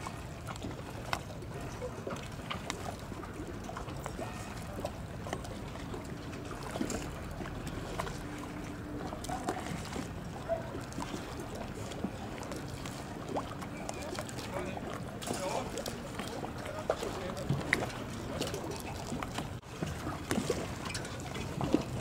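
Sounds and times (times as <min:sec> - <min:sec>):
small splashes: 0:00.0 - 0:22.0
waves lapping at shore: 0:00.0 - 0:22.0.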